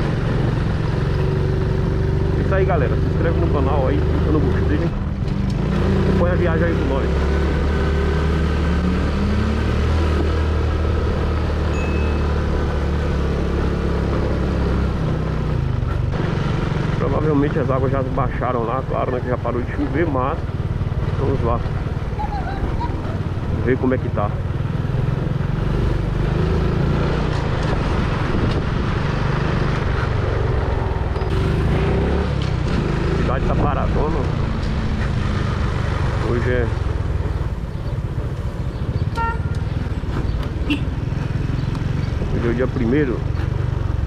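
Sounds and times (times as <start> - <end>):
motorcycle engine running: 0.0 - 8.4, 10.3 - 44.0
wind and road noise: 0.0 - 44.0.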